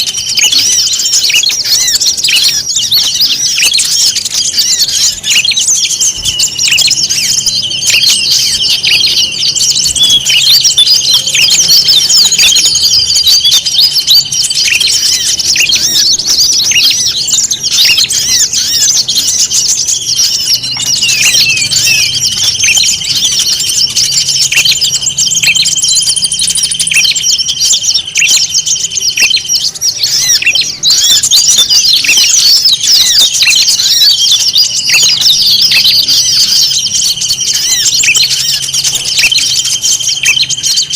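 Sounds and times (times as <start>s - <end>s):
high bird trill: 0.0s - 40.9s
songbirds chirping: 0.0s - 40.9s.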